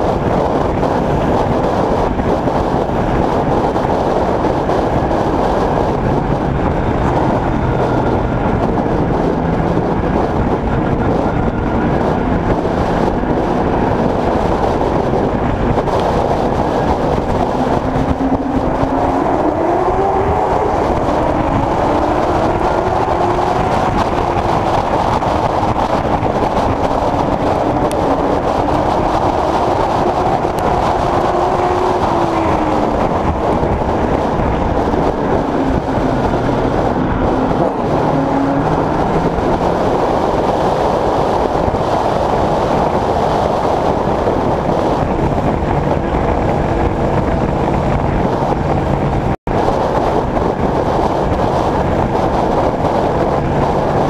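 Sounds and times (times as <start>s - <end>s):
race car engine: 0.0s - 54.0s
wind and road noise: 0.0s - 54.0s.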